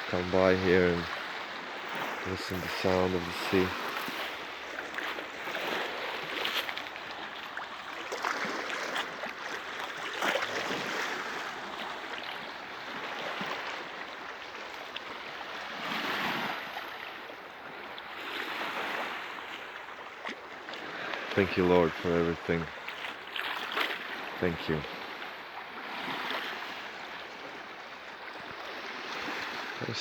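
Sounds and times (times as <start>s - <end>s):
small waves washing onto shore: 0.0s - 30.0s
water splashes: 0.0s - 30.0s.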